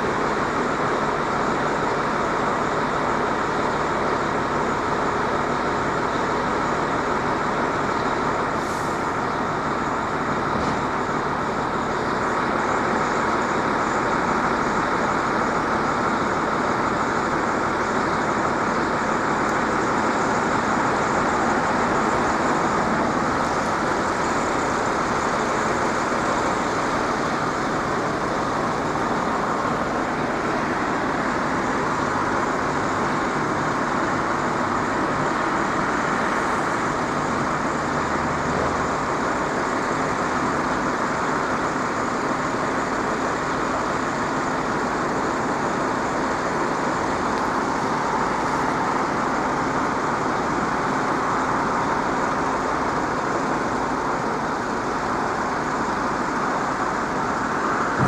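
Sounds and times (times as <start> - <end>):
road traffic rushing: 0.0 - 58.0.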